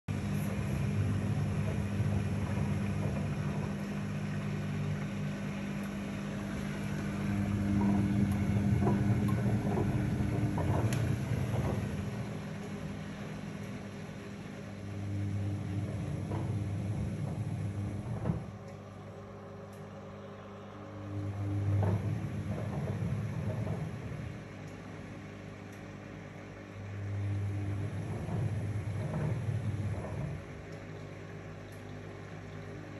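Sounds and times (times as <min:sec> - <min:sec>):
washing machine motor humming: 0:00.0 - 0:32.9.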